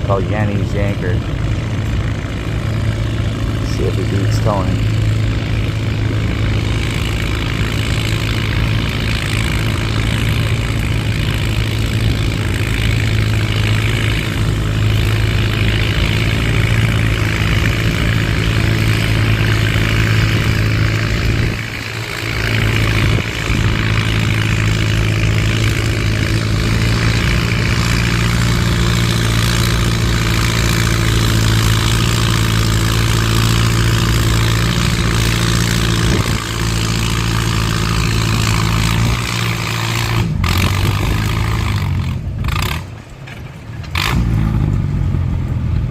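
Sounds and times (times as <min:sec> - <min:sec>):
tractor engine running under load: 0:00.0 - 0:45.9.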